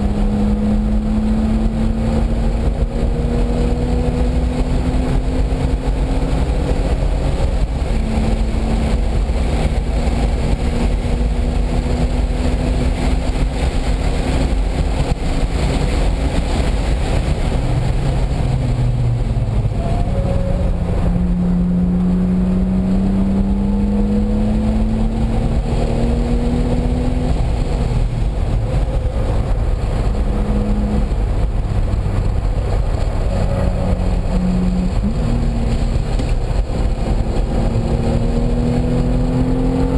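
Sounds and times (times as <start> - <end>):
car engine under load: 0.0 - 39.9
loud wind: 0.0 - 39.9
road noise: 0.0 - 39.9.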